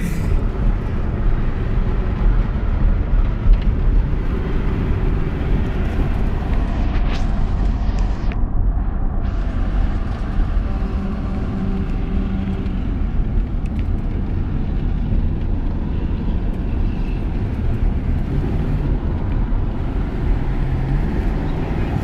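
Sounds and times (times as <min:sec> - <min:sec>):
car engine droning inside cabin: 0:00.0 - 0:22.0
road and wind noise: 0:00.0 - 0:22.0.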